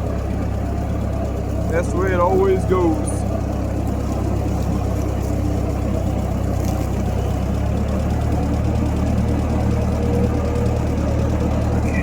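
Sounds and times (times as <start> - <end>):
tractor engine putt-putt chuff: 0.0 - 12.0.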